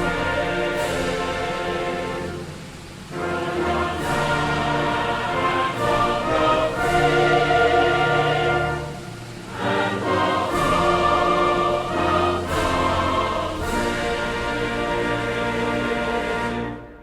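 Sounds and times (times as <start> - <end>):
orchestral music with choir-like chords: 0.0 - 17.0.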